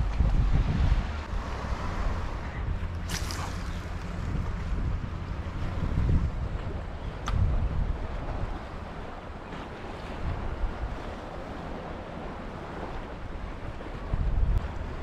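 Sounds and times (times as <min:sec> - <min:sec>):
gentle sea water: 0:00.0 - 0:15.0
wind buffeting microphone: 0:00.0 - 0:15.0.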